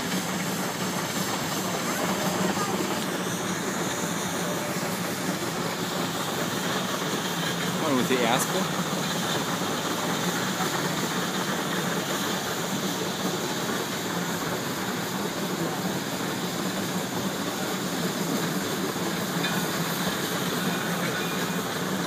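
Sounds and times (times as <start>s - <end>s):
steam hiss: 0.0s - 22.0s
train cars rolling on rails: 0.0s - 22.0s.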